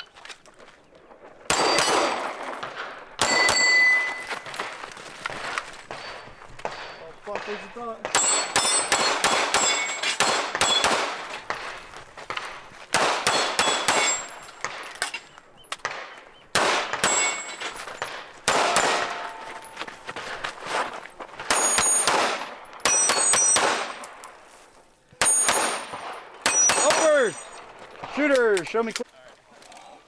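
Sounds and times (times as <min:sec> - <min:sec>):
pistol shots: 0:01.1 - 0:29.0
steel targets clanging: 0:01.2 - 0:29.0.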